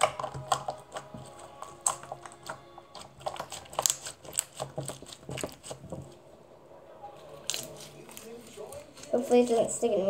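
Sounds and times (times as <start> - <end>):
slime crunching and popping: 0.0 - 6.2, 7.4 - 9.7.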